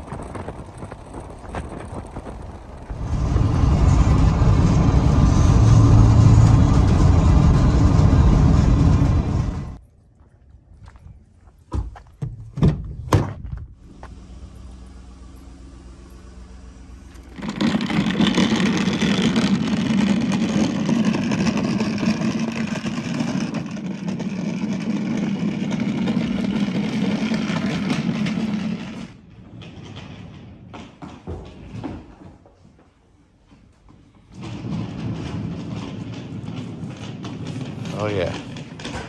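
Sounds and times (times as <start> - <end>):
dolly wheels rolling over asphalt: 0.0 - 9.8, 13.8 - 32.6, 33.4 - 39.0.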